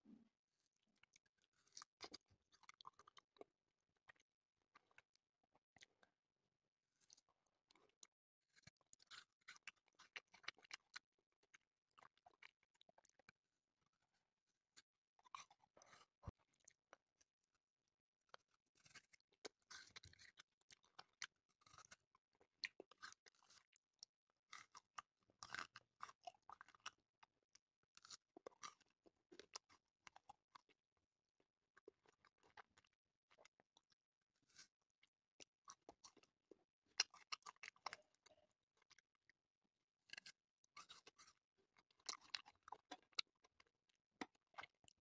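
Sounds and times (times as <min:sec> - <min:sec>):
crunching and wet chewing: 0:01.0 - 0:05.1, 0:05.8 - 0:06.0, 0:07.0 - 0:13.4, 0:14.8 - 0:16.8, 0:18.3 - 0:30.8, 0:31.8 - 0:39.3, 0:40.0 - 0:45.0.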